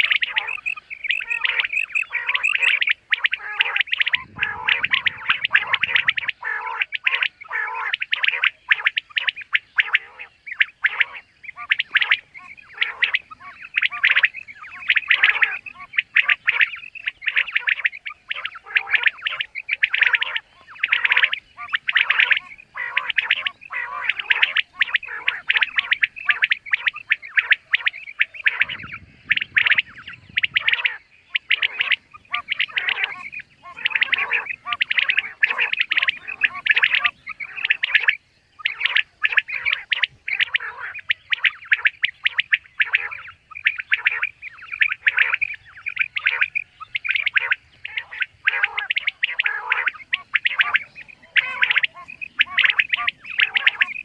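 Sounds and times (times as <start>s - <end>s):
quail calling: 0.0s - 54.0s.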